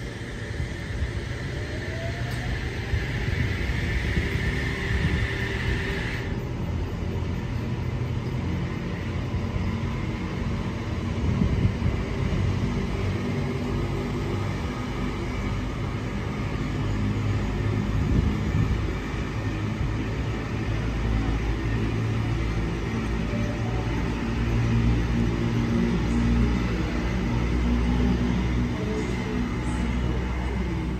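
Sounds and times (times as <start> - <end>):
train rumbling: 0.0 - 30.9.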